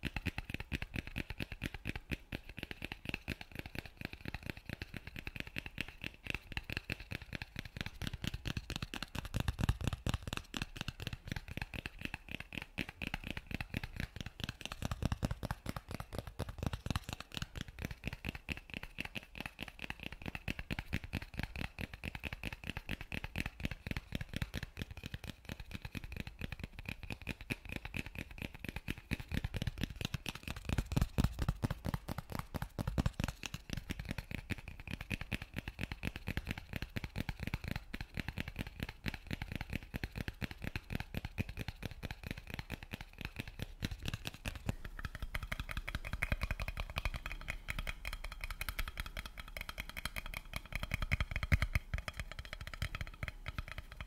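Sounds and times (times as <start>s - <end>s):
fingers clicking and rustling: 0.0s - 54.0s.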